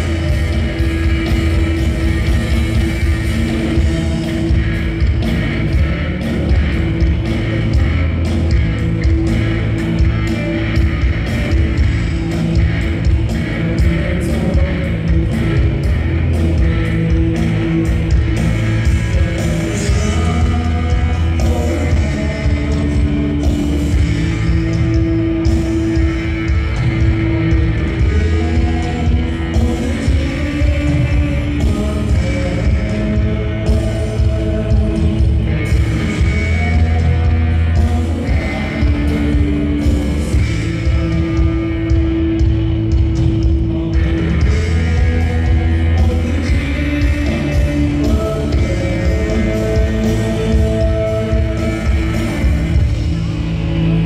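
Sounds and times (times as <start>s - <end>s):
drums with steady beat: 0.0s - 54.0s
electric guitars: 0.0s - 54.0s
lead singer singing: 0.0s - 54.0s.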